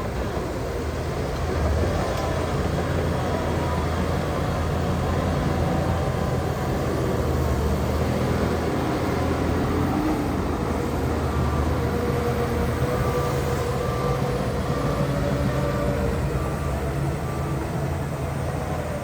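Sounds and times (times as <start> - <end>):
heavy diesel machinery drone: 0.0 - 19.0.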